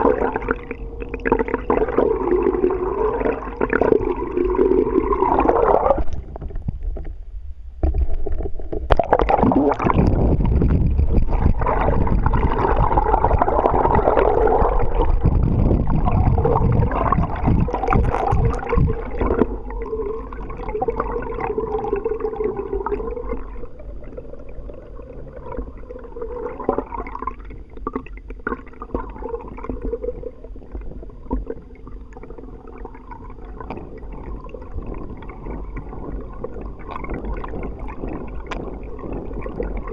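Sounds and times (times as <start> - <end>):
water gurgling and rushing: 0.0 - 7.2, 7.8 - 39.9.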